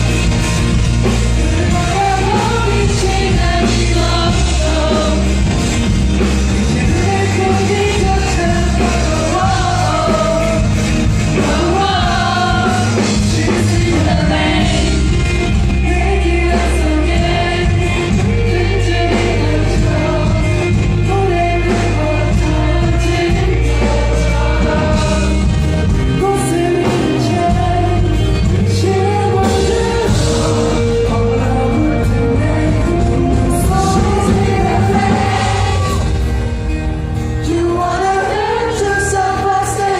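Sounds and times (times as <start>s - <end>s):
man singing lead vocal: 0.0s - 36.4s, 37.2s - 39.9s
bass line: 0.0s - 39.9s
live rock band: 0.0s - 39.9s.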